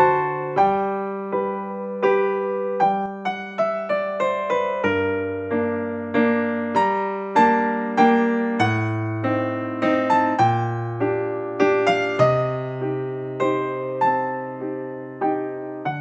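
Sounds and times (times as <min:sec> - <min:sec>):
gentle electric piano melody: 0:00.0 - 0:16.0.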